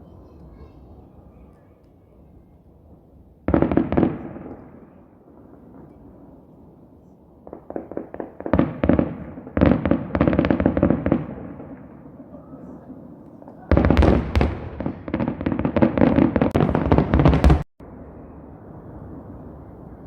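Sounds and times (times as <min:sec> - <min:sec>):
fireworks bangs and booms: 0:02.1 - 0:20.0.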